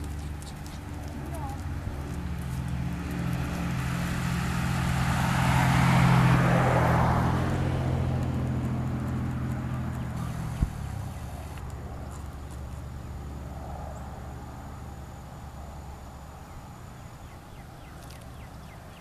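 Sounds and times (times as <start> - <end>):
vehicle driving past: 0.0 - 19.0.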